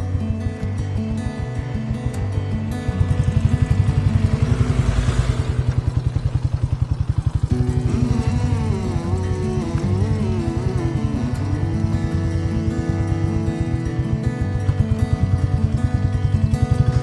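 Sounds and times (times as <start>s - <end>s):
background music: 0.0s - 5.9s, 7.2s - 17.0s
motorcycle engine throbbing: 0.0s - 17.0s.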